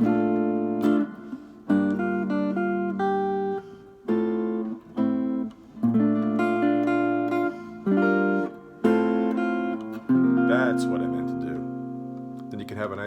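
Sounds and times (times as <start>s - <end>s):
solo guitar chords ringing: 0.0s - 13.0s.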